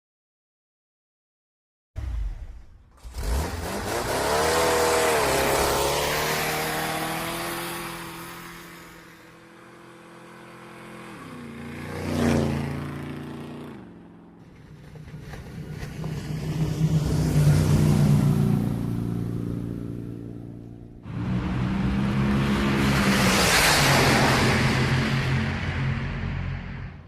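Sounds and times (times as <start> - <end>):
motorcycle engine revving: 2.9 - 27.0.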